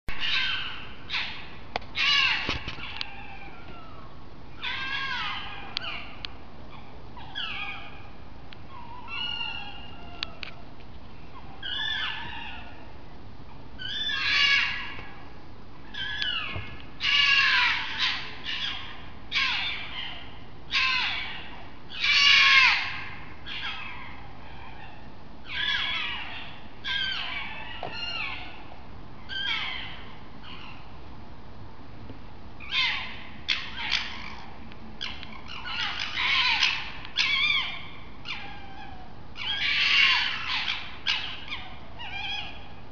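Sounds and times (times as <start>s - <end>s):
animal screeching: 0.2s - 1.4s, 2.0s - 6.2s, 7.2s - 8.0s, 8.7s - 10.5s, 11.4s - 12.9s, 13.8s - 15.0s, 15.9s - 28.7s, 29.3s - 30.8s, 32.6s - 42.8s.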